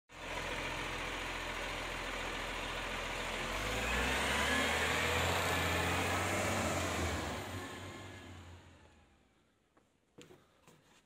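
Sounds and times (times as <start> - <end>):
garbage truck engine running: 0.1 - 9.0.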